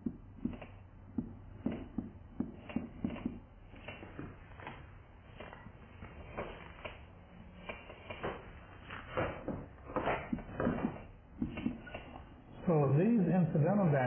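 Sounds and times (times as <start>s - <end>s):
marker scratching on whiteboard: 0.0s - 7.0s, 7.6s - 12.3s.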